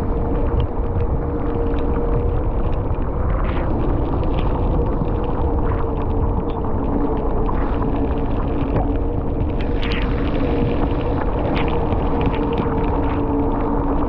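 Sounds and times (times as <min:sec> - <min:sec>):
faint steady hum: 0:00.0 - 0:14.0
wind buffeting microphone: 0:00.0 - 0:14.0
small ticks: 0:00.1 - 0:14.0.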